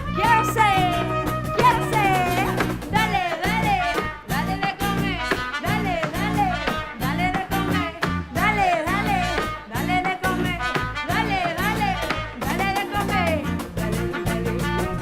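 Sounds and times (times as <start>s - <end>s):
live band playing upbeat song: 0.0s - 15.0s.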